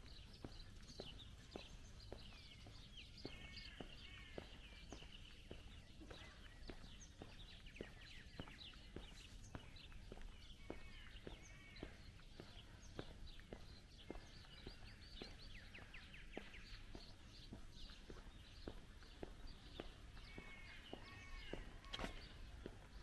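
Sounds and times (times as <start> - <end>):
faint footsteps walking: 0.0 - 23.0
small birds chirping: 0.0 - 23.0.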